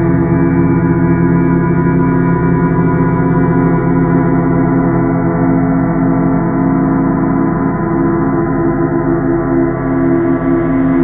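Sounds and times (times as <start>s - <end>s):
gong-like drone: 0.0s - 11.0s.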